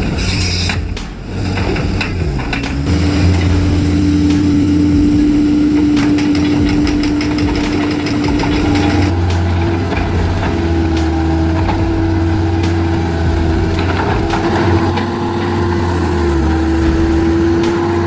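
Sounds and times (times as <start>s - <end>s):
excavator engine running: 0.0s - 18.0s
steady high whine: 0.0s - 18.0s.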